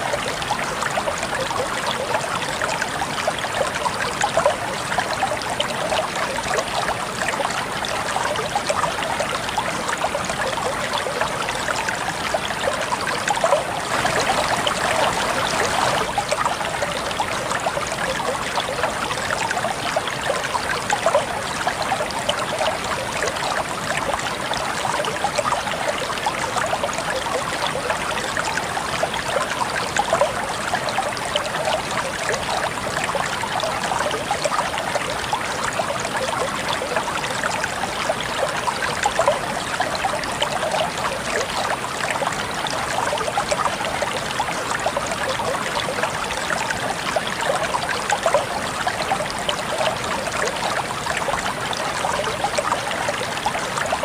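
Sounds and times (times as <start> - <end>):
water flowing over stones: 0.0 - 54.0.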